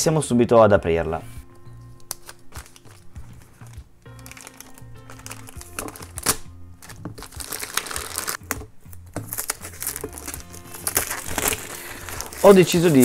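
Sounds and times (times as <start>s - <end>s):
quiet background music: 0.0s - 13.0s
plastic bag rustling: 2.1s - 13.0s.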